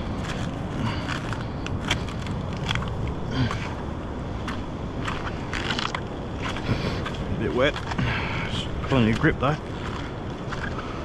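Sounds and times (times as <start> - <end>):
footsteps on wet rock: 0.0 - 11.0
wind on microphone: 0.0 - 11.0.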